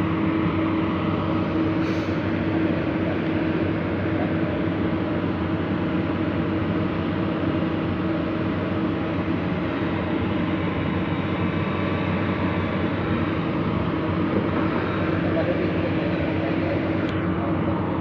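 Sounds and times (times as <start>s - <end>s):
diesel machinery engine running: 0.0s - 18.0s.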